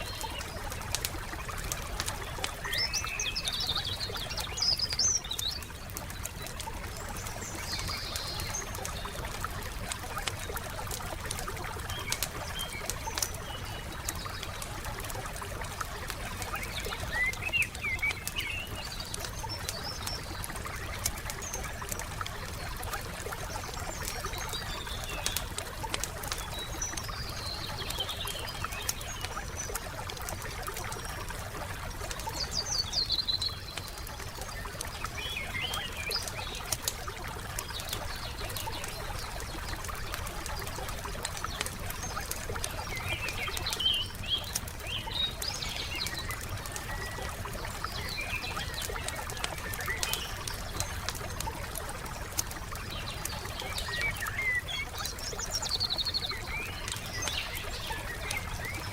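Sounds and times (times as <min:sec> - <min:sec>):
campfire crackling and popping: 0:00.0 - 0:58.9
songbirds chirping: 0:00.0 - 0:58.9.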